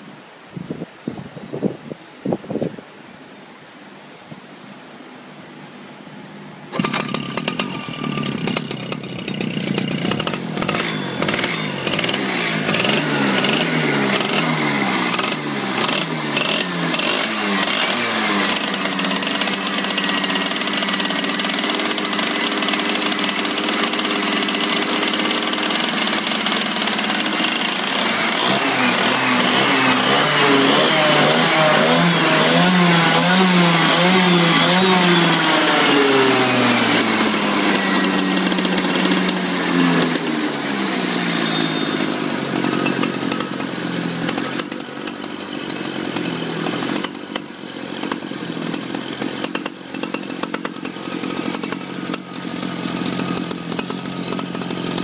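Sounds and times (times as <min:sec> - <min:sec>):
two-stroke kart engine revving: 0:06.7 - 0:55.0.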